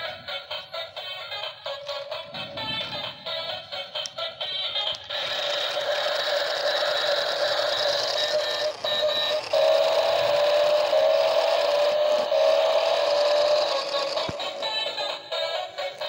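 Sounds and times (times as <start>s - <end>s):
toy car electric motor whining: 0.0s - 16.0s.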